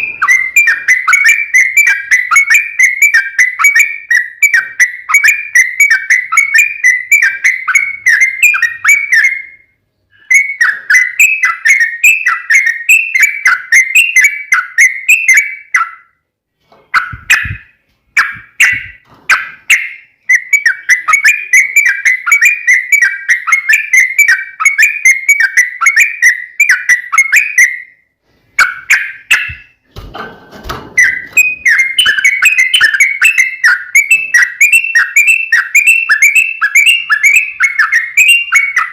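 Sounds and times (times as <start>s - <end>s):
bulbul chattering song: 0.0s - 16.1s, 16.9s - 28.0s, 28.6s - 29.8s, 31.0s - 38.9s.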